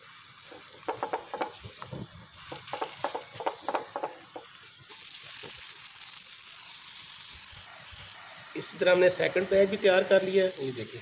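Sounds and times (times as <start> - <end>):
flatbread frying in oil: 0.0 - 11.0.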